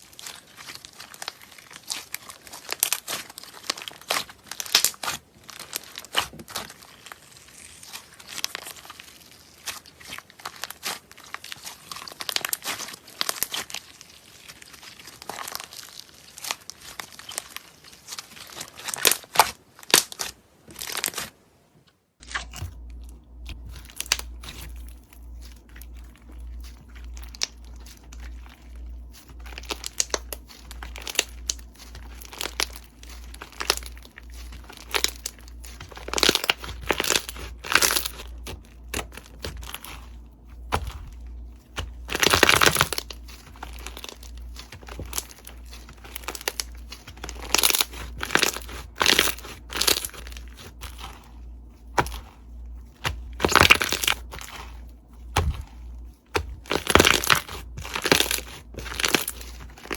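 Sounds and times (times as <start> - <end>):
slime crackling and popping: 0.0 - 21.3, 22.2 - 59.9.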